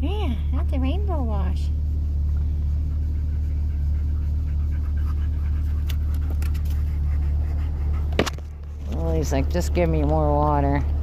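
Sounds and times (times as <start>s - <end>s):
car wash droning: 0.0s - 11.0s
dog panting: 0.5s - 11.0s.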